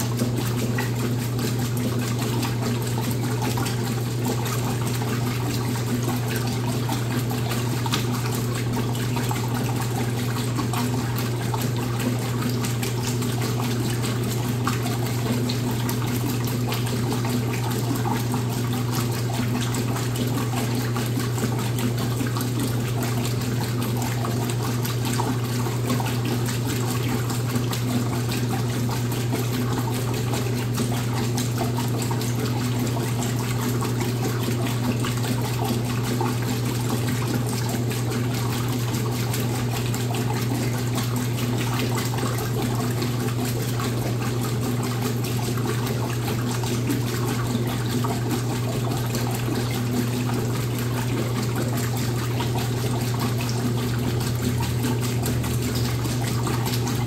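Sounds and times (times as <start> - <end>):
washing machine running: 0.0 - 57.0.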